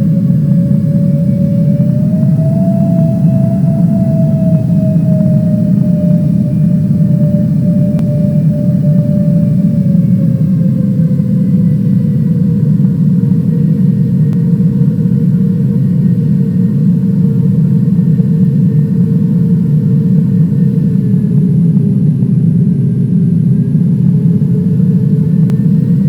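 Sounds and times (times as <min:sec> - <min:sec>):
airliner engines winding down: 0:00.0 - 0:26.0.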